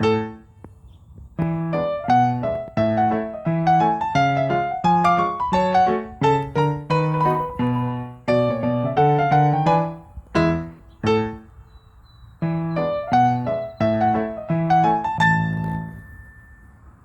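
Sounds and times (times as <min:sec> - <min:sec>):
piano music: 0:00.0 - 0:00.5, 0:01.4 - 0:11.6, 0:12.4 - 0:17.0.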